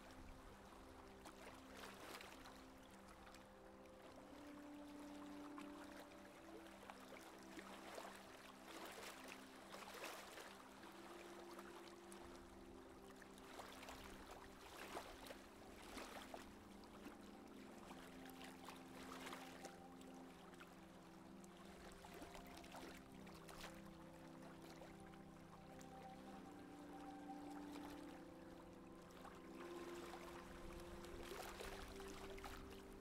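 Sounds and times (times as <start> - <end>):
water rushing along hull: 0.0 - 33.0.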